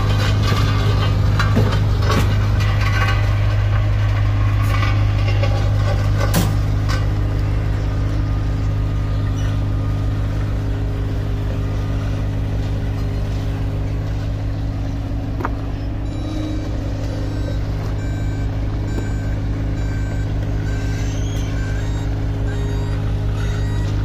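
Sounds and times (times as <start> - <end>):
engine idling with deep hum: 0.0 - 24.0
rakes scraping asphalt: 0.0 - 24.0.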